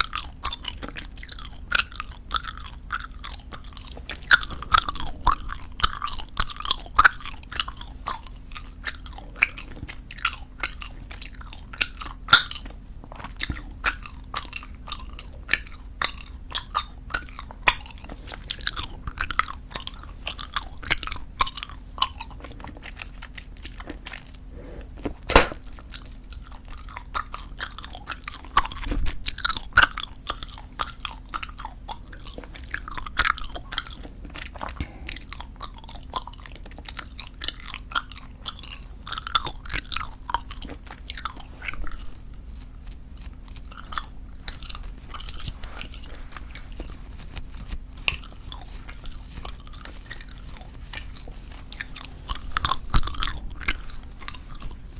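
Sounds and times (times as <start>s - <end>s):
gum chewing wet smacks: 0.0s - 54.9s.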